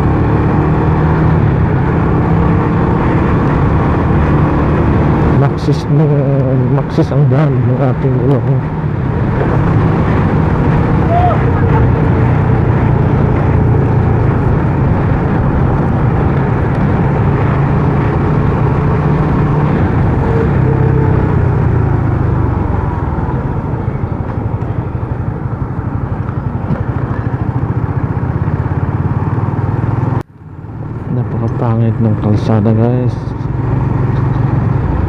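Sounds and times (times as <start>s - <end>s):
motorcycle engine running: 0.0s - 31.2s.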